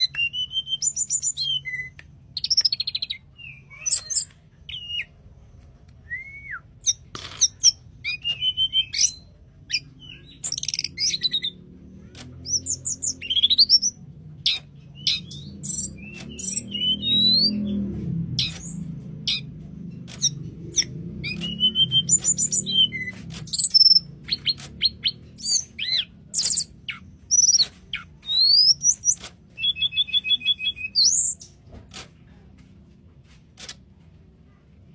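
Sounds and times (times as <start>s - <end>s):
songbird whistled song: 0.0s - 5.2s, 6.0s - 19.5s, 20.1s - 31.6s.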